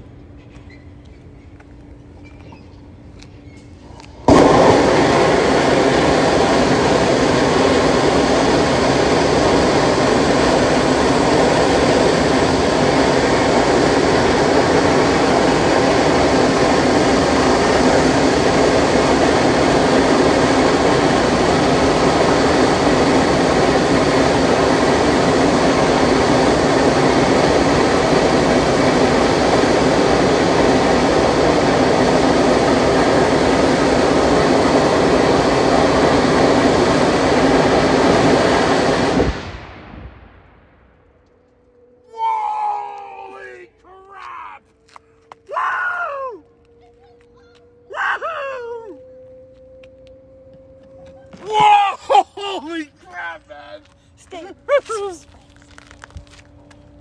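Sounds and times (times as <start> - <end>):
rocket engine roaring: 1.2 - 57.0.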